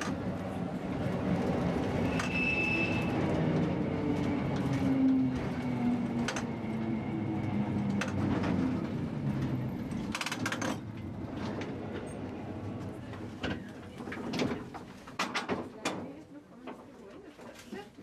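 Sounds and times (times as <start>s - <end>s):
tram electric hum: 0.0s - 15.0s.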